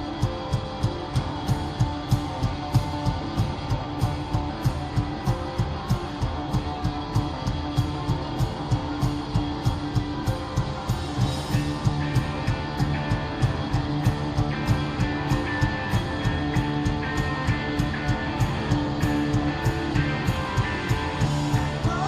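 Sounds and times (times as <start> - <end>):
steady drum beat: 0.0 - 22.0
strummed guitars: 0.0 - 22.0.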